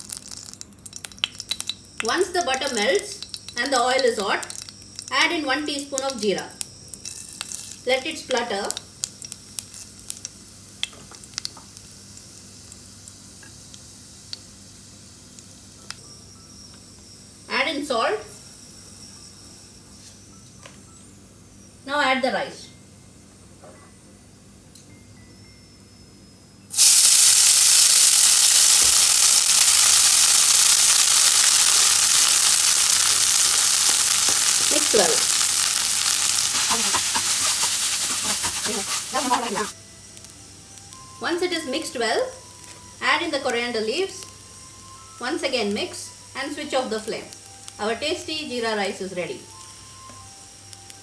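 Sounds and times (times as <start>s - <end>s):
seeds sizzling in hot oil: 0.0s - 20.3s, 26.7s - 51.0s.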